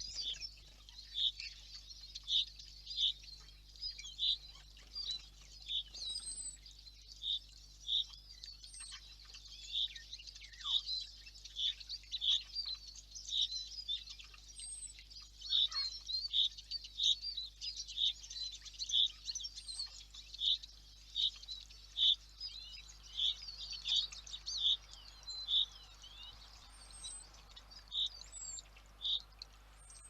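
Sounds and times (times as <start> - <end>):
songbirds chirping and twittering: 0.0 - 30.0.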